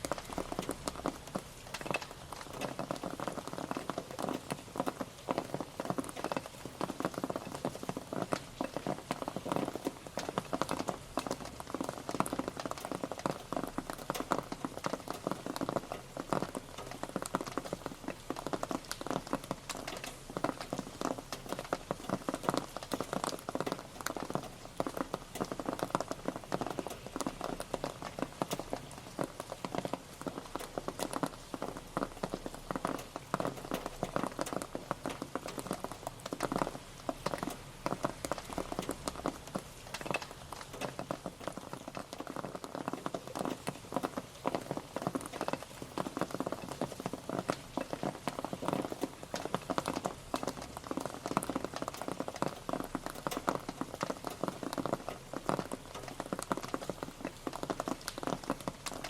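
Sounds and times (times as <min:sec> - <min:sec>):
rain pattering on hard surface: 0:00.0 - 0:59.0.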